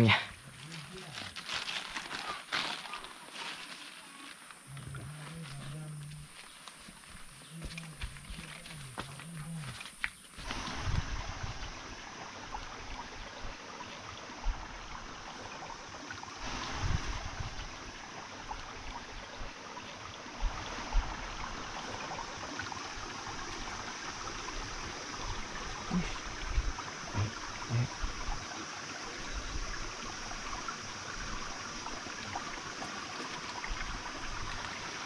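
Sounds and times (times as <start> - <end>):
stream running: 0.0 - 35.0.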